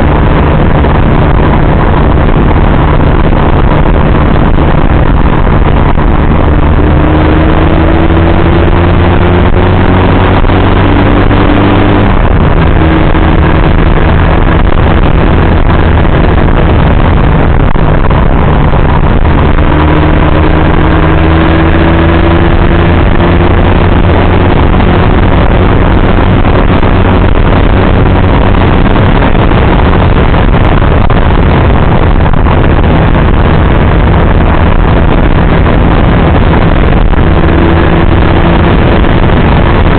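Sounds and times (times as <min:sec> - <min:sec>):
heavy wind noise: 0:00.0 - 0:39.9
motorcycle engine: 0:00.0 - 0:39.9.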